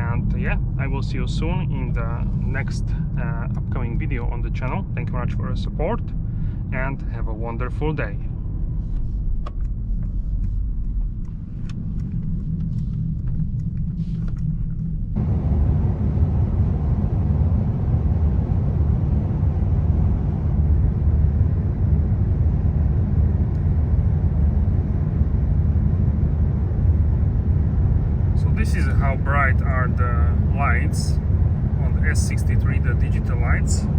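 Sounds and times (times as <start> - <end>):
car engine and road rumble: 0.0 - 33.9
road and wind noise rush: 1.5 - 33.9.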